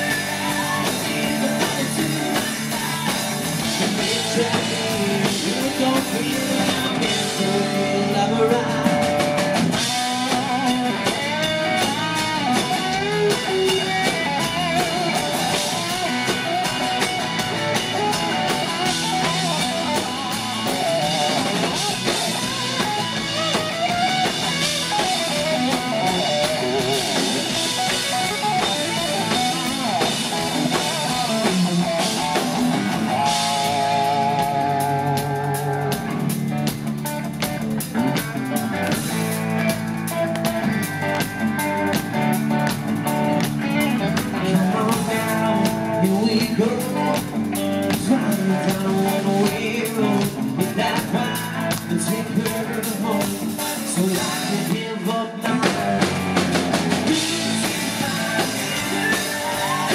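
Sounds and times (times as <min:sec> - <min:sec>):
bass guitar: 0:00.0 - 0:59.9
drum kit: 0:00.0 - 0:59.9
electric guitars: 0:00.0 - 0:59.9
wavering lead guitar: 0:00.0 - 0:59.9.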